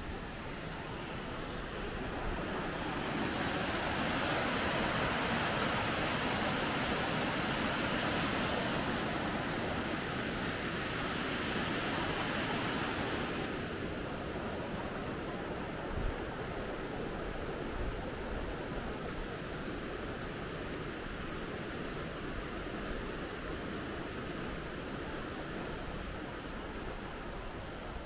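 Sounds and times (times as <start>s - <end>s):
river water rushing over weir: 0.0s - 28.0s.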